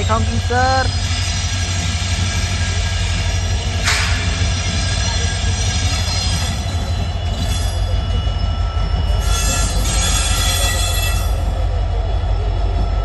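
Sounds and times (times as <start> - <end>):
train rumbling: 0.0 - 13.0
train wheel squeal: 0.0 - 13.0.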